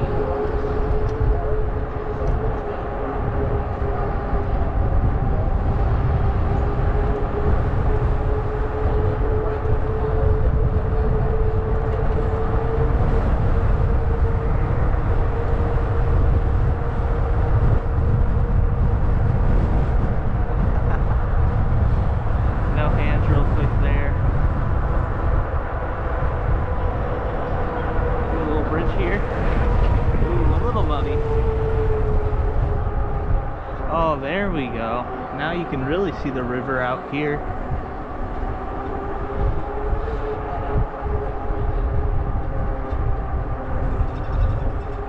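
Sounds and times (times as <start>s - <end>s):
e-bike motor hum: 0.0s - 45.0s
low tyre rumble: 0.0s - 45.0s.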